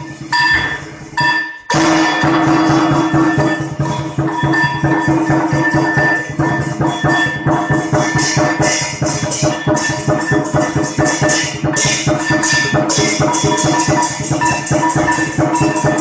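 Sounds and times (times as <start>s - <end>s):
fast percussion beat: 0.0s - 16.0s.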